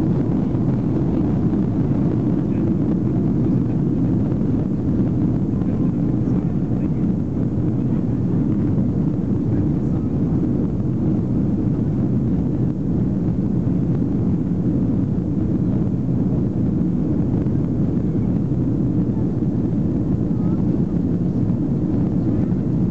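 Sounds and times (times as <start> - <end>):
jet engine and airflow rush: 0.0 - 22.9.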